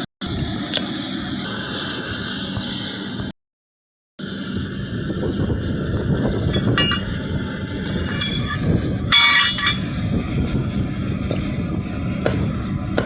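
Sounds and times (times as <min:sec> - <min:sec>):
mechanical rumble with hum: 0:00.0 - 0:03.3, 0:04.2 - 0:13.0.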